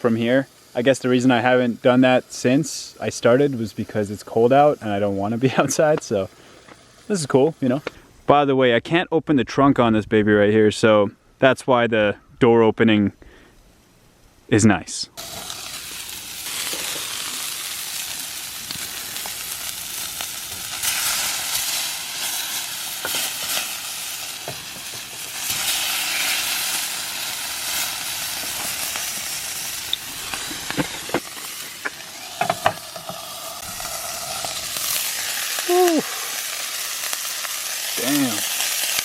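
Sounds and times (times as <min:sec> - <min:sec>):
sausages sizzling in a frying pan: 0:00.0 - 0:07.8, 0:15.2 - 0:39.0.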